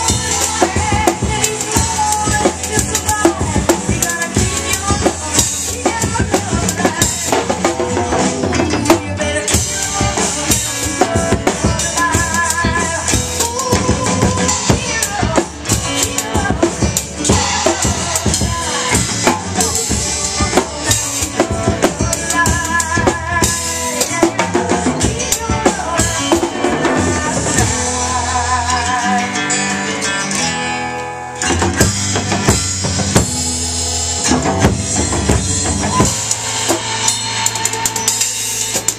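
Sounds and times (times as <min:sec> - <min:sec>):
drum kit rock groove: 0:00.0 - 0:38.9
recorded rock song: 0:00.0 - 0:38.9.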